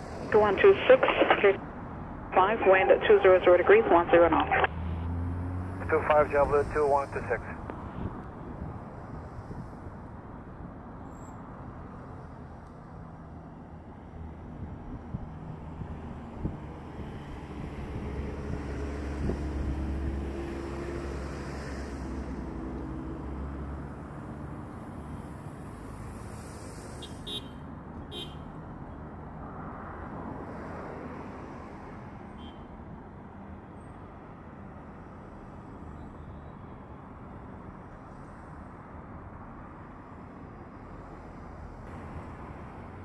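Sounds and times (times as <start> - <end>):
traffic noise: 0.0 - 43.0.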